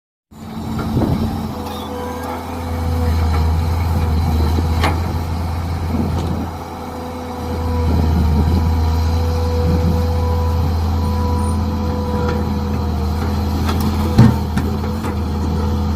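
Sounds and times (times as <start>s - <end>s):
excavator engine running: 0.3s - 15.9s.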